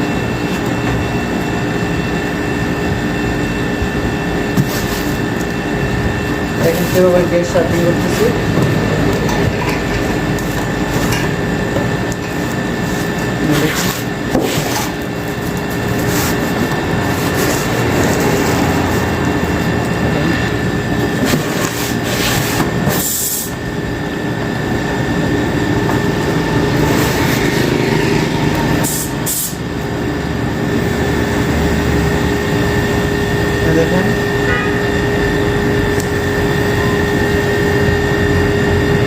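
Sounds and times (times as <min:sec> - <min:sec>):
cooler compressor hum: 0:00.0 - 0:39.0.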